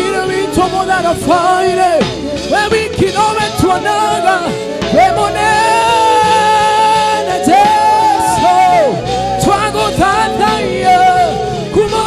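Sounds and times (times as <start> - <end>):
instrumental accompaniment: 0.0 - 12.0
voices singing held notes: 0.0 - 12.0.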